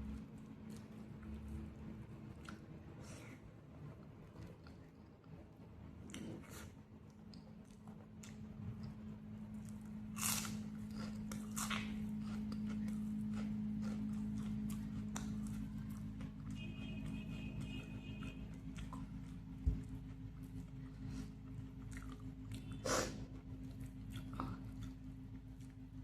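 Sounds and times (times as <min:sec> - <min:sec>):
person chewing and crunching food: 0:00.0 - 0:26.0
steady low hum: 0:00.0 - 0:26.0.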